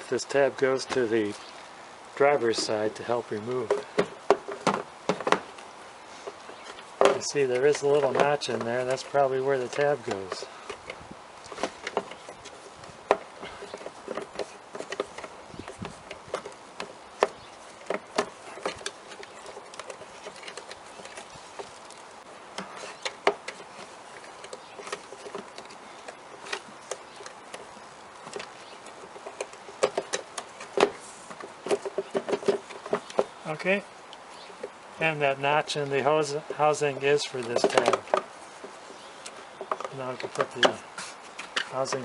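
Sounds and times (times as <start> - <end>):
plastic clicks and rubbing: 3.6 - 33.4, 35.9 - 42.0.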